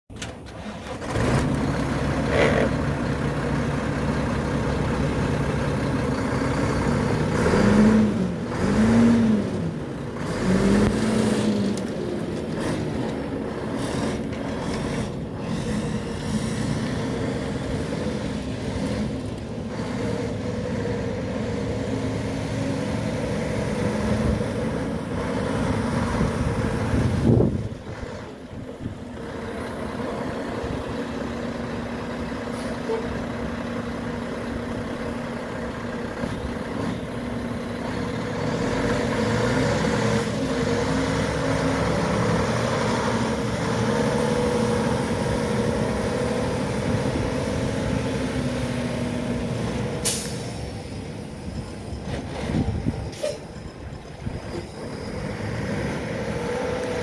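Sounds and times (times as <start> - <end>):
truck diesel engine revving: 0.4 - 57.0.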